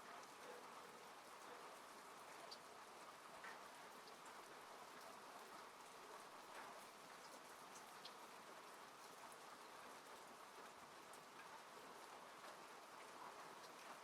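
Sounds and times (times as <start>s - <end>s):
rain on a car: 0.0s - 14.0s.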